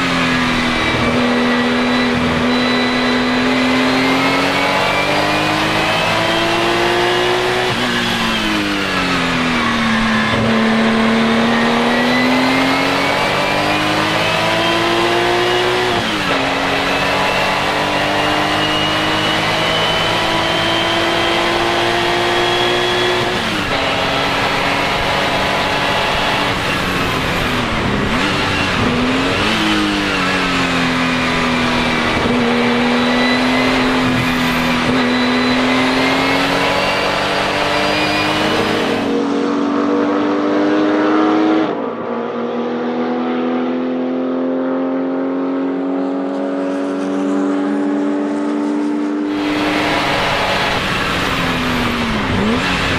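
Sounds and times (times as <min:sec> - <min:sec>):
racing engine revving: 0:00.0 - 0:52.9.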